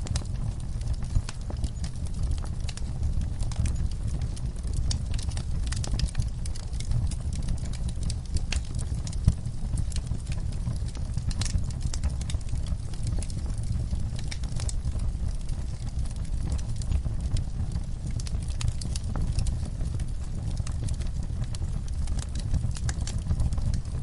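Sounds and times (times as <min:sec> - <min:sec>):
fire crackling and snapping: 0:00.0 - 0:24.0
wood fire rumbling: 0:00.0 - 0:24.0.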